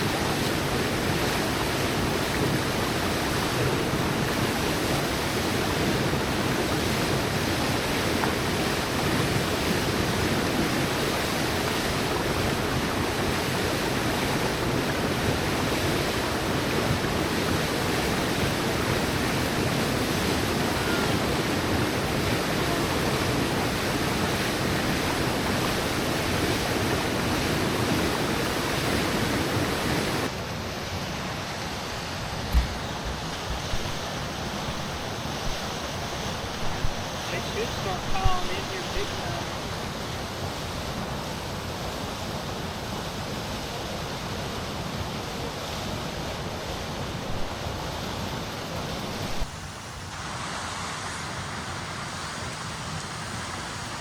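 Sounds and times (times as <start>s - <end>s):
river rushing over riffle: 0.0s - 54.0s.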